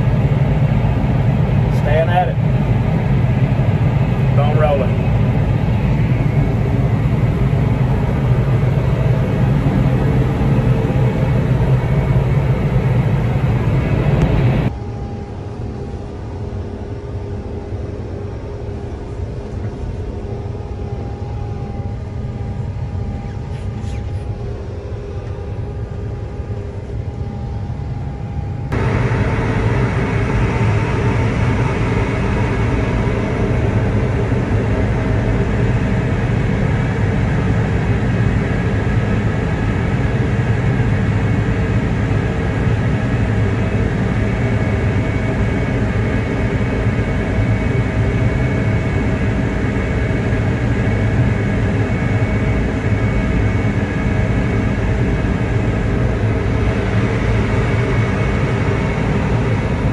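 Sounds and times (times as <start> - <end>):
farm machine engine drone: 0.0 - 59.9.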